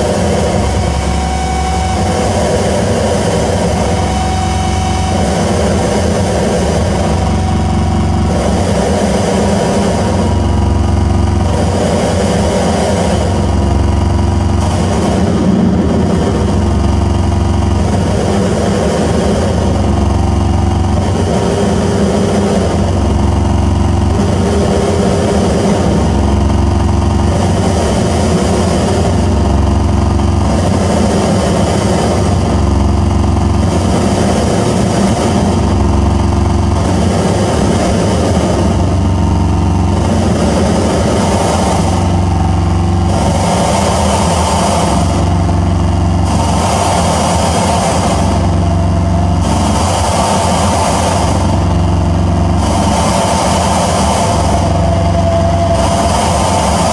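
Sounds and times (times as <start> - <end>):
electronic noise drone: 0.0 - 56.9.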